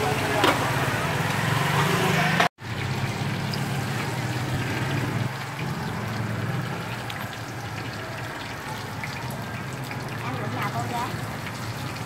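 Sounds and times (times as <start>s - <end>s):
oil frying in a pan: 0.0s - 12.0s.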